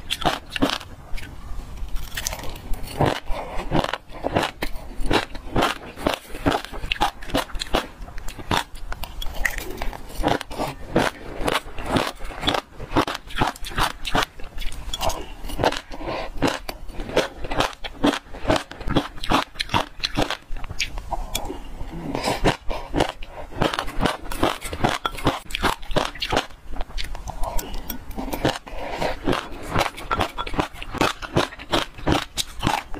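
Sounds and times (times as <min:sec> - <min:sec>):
seeds crunching between teeth: 0:00.0 - 0:32.9.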